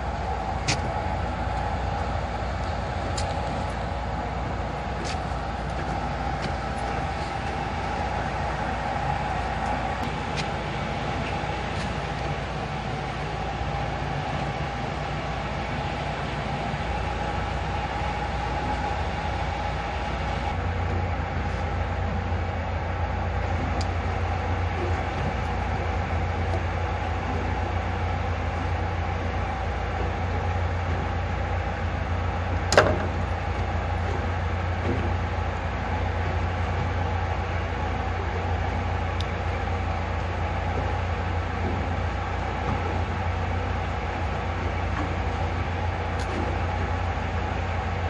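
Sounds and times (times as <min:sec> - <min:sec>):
ship machinery drone: 0:00.0 - 0:48.0.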